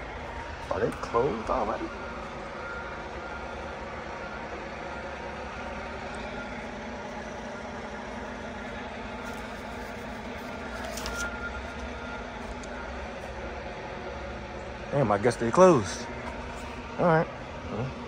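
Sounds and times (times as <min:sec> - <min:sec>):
truck engines idling: 0:00.0 - 0:18.0.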